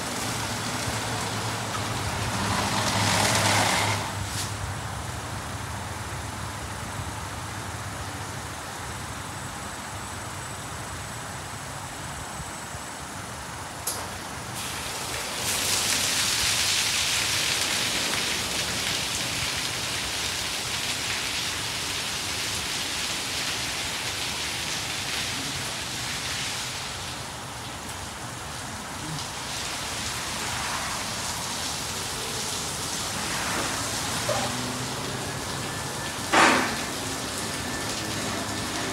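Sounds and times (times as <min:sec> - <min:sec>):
car wash machinery hissing: 0:00.0 - 0:38.9
water jets spraying a car: 0:00.0 - 0:38.9.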